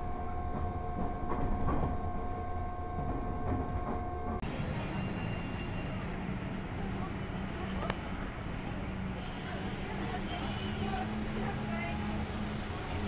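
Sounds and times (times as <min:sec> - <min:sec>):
outdoor street noise: 0:00.0 - 0:13.0
train running rumble and whine: 0:00.0 - 0:13.0.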